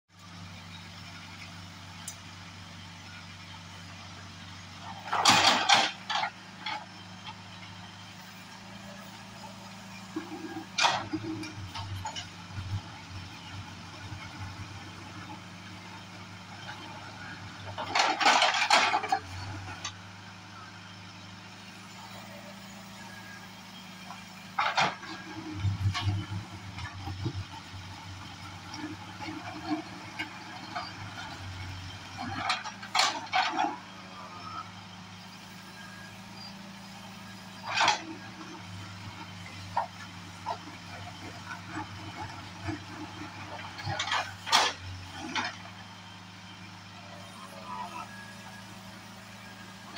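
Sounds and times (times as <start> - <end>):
diesel engine running: 0.1 - 49.9.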